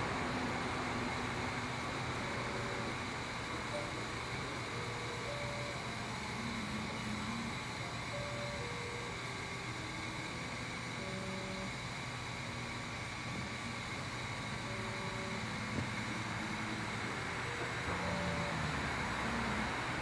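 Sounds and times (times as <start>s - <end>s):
fan hiss: 0.0s - 20.0s
stepper motors whining: 0.0s - 20.0s.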